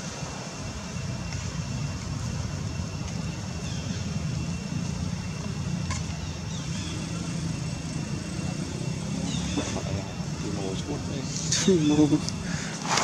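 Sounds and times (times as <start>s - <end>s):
engine rumbling: 0.0s - 13.0s
faint high whine: 0.0s - 13.0s.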